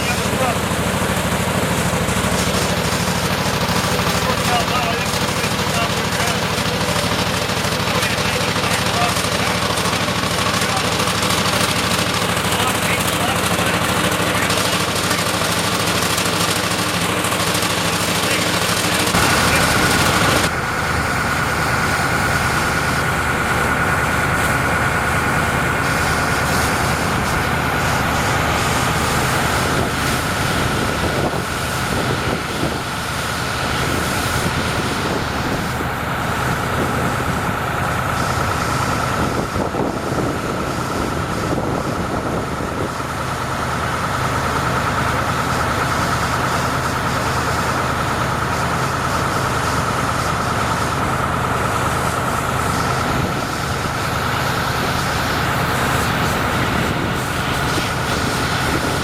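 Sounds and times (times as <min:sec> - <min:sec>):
heavy truck engine running: 0:00.0 - 0:59.0.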